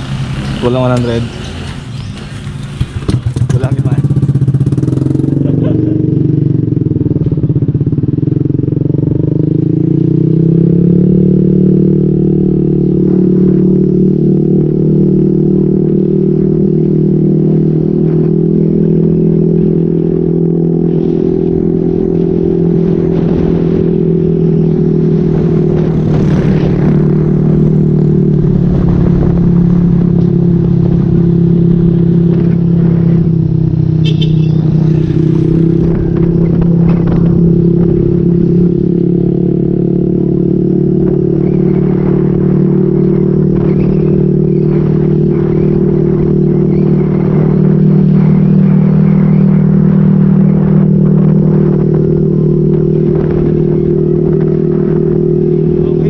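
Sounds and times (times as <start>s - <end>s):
motorcycle engine exhaust note: 0.0s - 56.0s.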